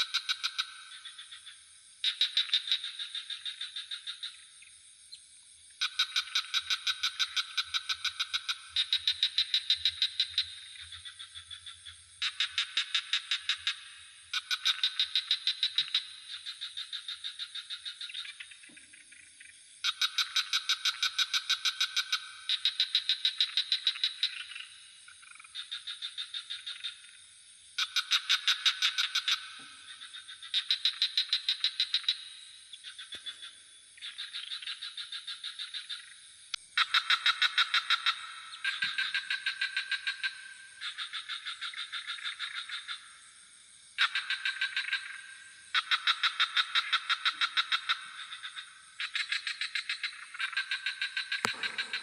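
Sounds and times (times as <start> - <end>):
frogs calling in rapid pulses: 0.0 - 52.0
high insect trill: 0.0 - 52.0.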